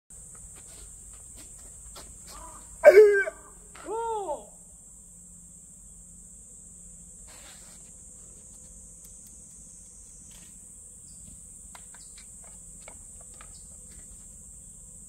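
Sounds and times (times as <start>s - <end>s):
insect chirring: 0.2s - 15.0s.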